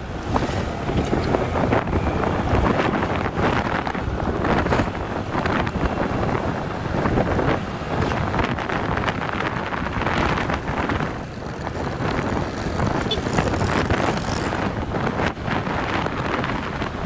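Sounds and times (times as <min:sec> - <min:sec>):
vehicle road noise: 0:00.0 - 0:17.0
wind buffeting microphone: 0:00.0 - 0:17.0.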